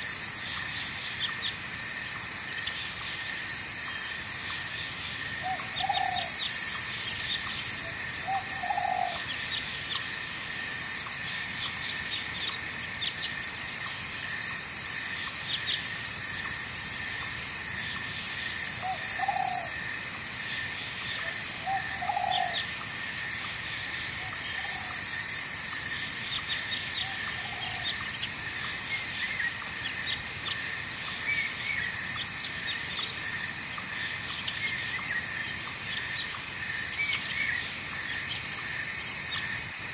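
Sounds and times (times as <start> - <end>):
crickets and insects chorus: 0.0 - 39.9.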